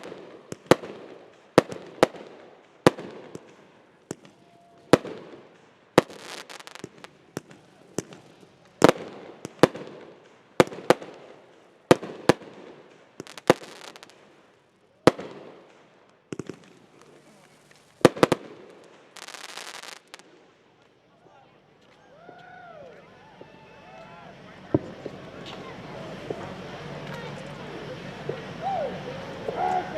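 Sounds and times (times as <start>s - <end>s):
fireworks bangs: 0.0s - 29.9s.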